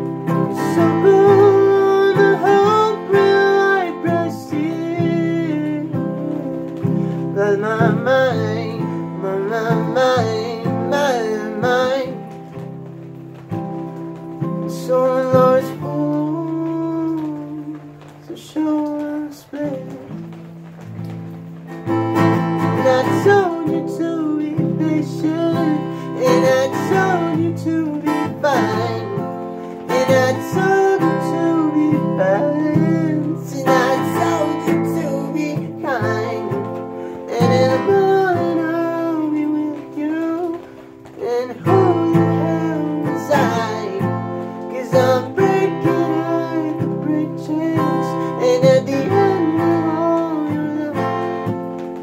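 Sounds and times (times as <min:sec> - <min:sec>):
man singing: 0:00.0 - 0:12.7, 0:14.2 - 0:20.3, 0:21.9 - 0:52.0
strummed acoustic guitar: 0:00.0 - 0:52.0.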